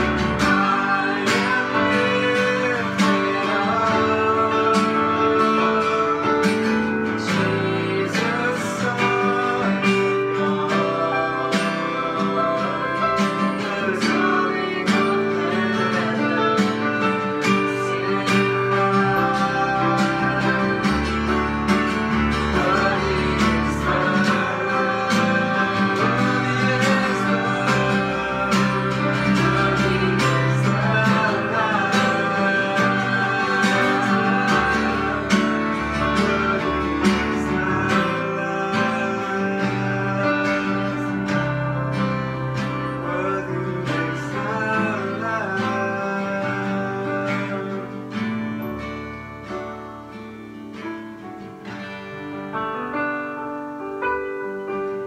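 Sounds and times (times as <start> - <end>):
acoustic guitar: 0.0 - 55.0
electric keyboard: 0.0 - 55.0.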